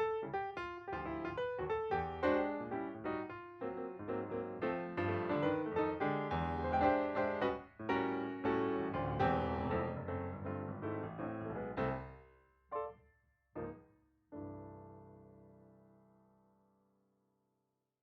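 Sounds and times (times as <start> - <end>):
piano music: 0.0 - 13.8, 14.4 - 16.0.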